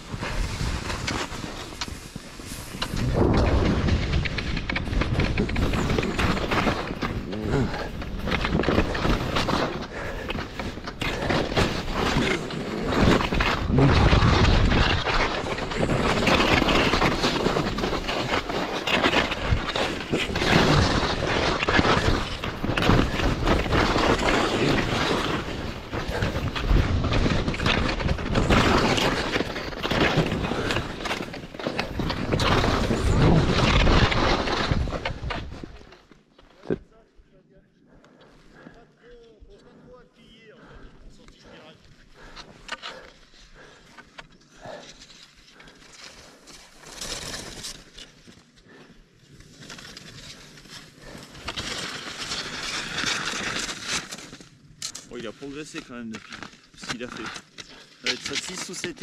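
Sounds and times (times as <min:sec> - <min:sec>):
skis scraping over snow: 0:00.0 - 0:36.7, 0:40.7 - 0:59.0.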